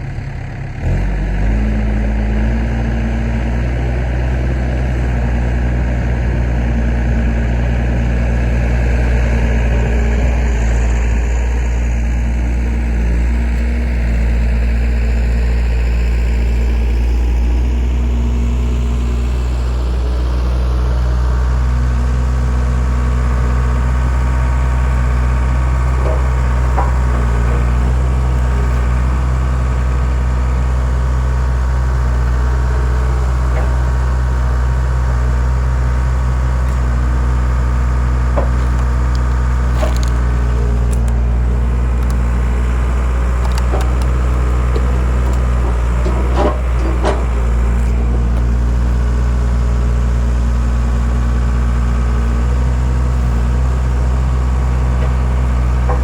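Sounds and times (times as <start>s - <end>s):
engine running at raised throttle: 0.0s - 56.0s.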